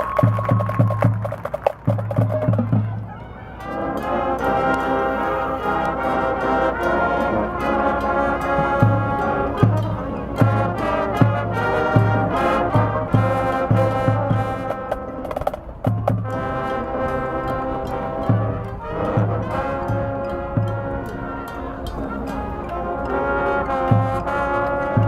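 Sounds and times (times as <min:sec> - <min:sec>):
brass section playing chords: 0:02.1 - 0:25.0.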